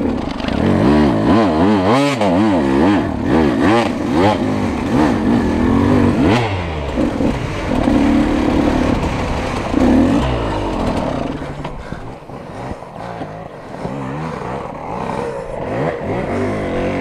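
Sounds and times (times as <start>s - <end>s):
dirt bike engine revving: 0.0s - 17.0s
distant dirt bikes revving: 0.0s - 17.0s.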